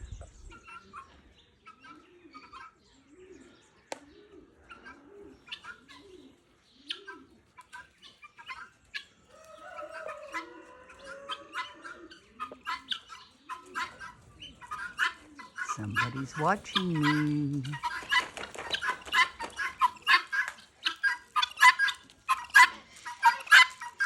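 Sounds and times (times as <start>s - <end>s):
small birds chirping: 0.0s - 24.0s
doves cooing: 0.6s - 24.0s.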